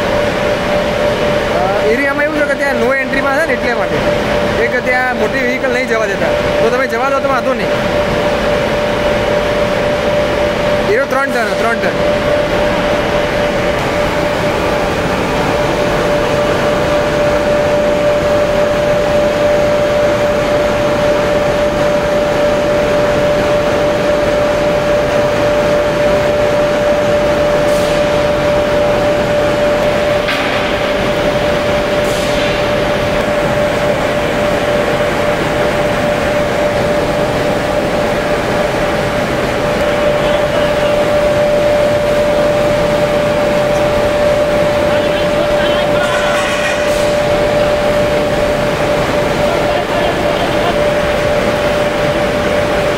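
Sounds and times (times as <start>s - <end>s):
constant hum: 0.0s - 52.9s
furnace roaring: 0.0s - 52.9s.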